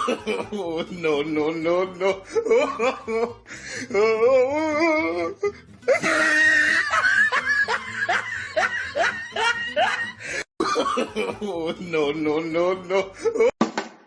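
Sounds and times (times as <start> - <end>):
person laughing hard: 0.0 - 3.6, 4.6 - 13.6.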